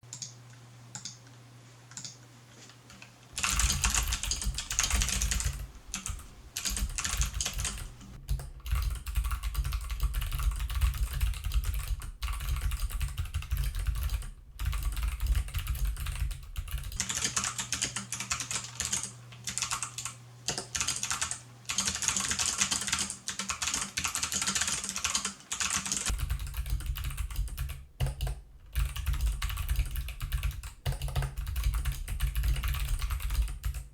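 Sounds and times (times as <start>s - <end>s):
fast mechanical keyboard typing: 2.9s - 33.9s.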